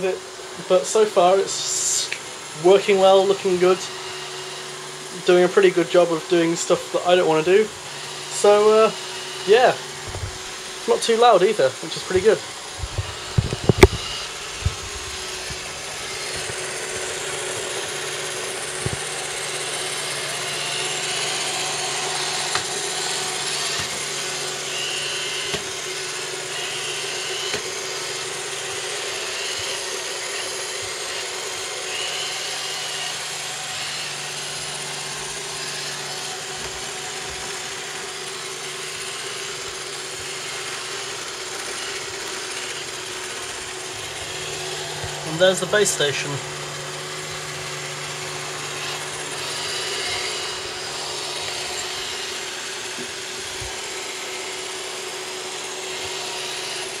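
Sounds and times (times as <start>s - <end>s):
robot vacuum running: 0.0s - 57.0s.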